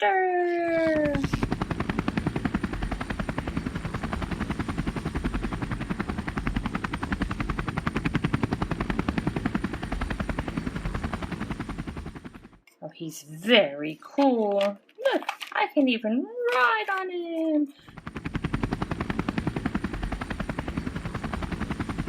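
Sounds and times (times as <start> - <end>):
helicopter rotor chopping: 0.0 - 12.6, 16.2 - 22.0.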